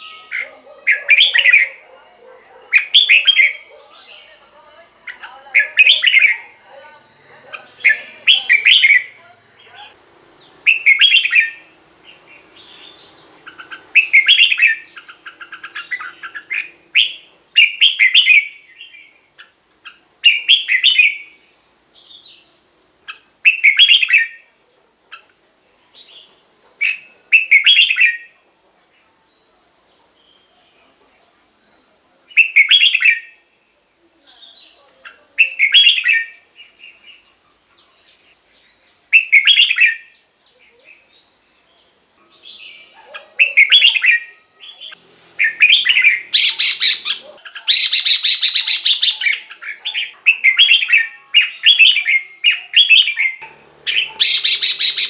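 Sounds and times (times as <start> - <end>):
bird singing warbled phrases: 0.0 - 55.0.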